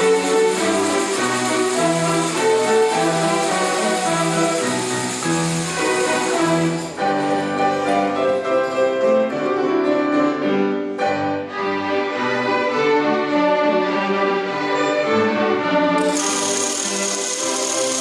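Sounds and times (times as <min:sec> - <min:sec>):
violin ensemble playing: 0:00.0 - 0:18.0.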